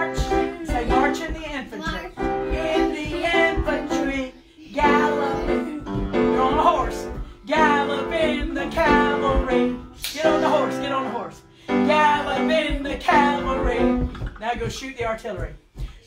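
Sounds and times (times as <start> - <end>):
children's song with instruments: 0.0 - 16.0.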